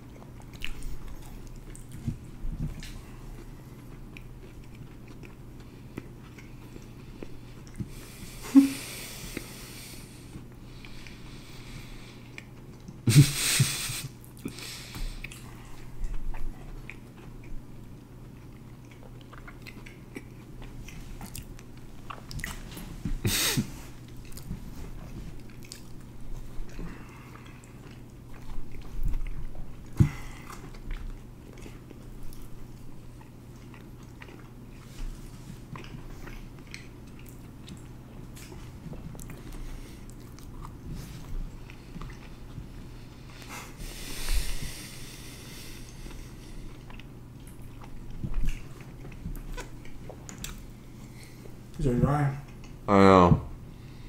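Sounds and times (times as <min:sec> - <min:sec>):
people chewing: 0:00.0 - 0:51.8, 0:52.4 - 0:52.9.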